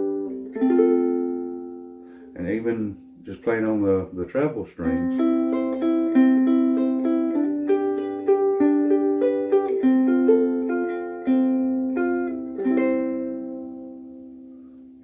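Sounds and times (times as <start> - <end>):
ukulele melody picked: 0.0 - 4.0, 4.8 - 15.0.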